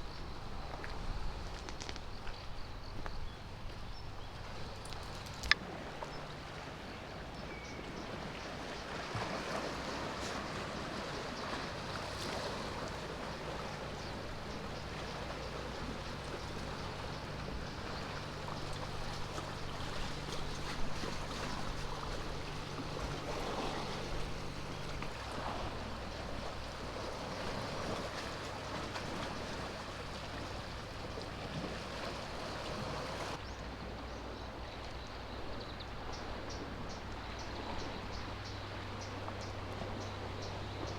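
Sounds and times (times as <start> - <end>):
low engine hum: 0.0 - 40.9
water lapping at shore: 0.0 - 40.9.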